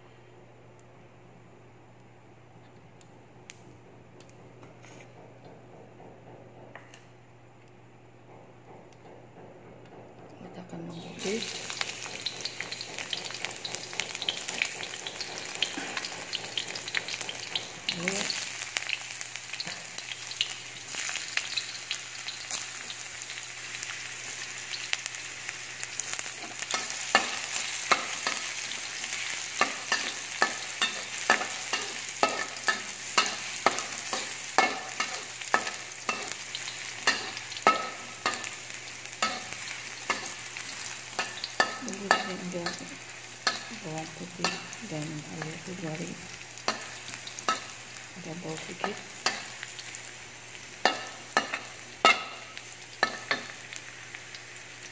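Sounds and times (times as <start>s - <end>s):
garlic sizzling in hot oil: 10.9s - 54.9s.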